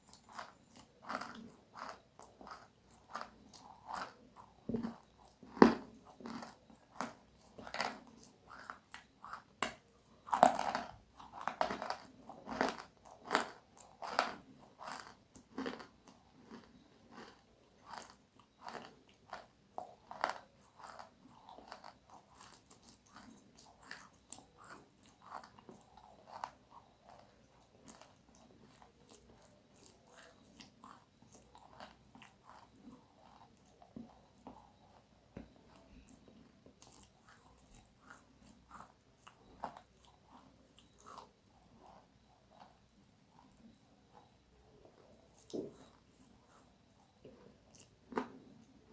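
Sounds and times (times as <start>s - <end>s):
crunching and chewing crispy food: 0.0s - 48.9s.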